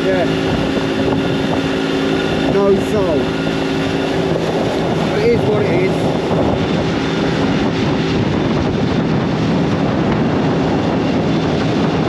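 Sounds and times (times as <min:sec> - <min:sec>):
boat motor rushing noise: 0:00.0 - 0:12.0.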